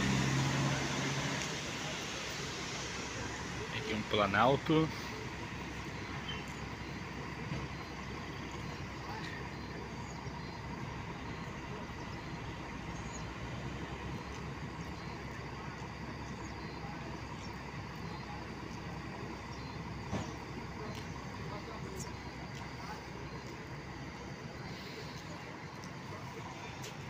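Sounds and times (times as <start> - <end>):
diesel coach engine idling: 0.0 - 27.0.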